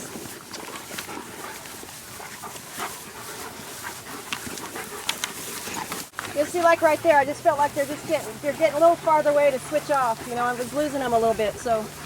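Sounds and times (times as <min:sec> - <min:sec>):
dogs panting: 0:00.0 - 0:12.0.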